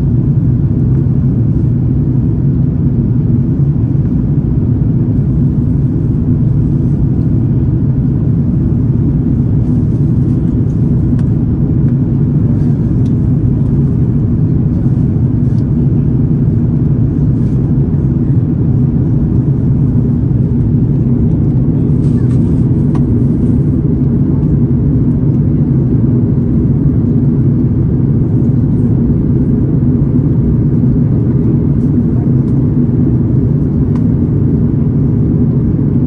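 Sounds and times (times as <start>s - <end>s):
jet engines at climb power: 0.0s - 36.0s.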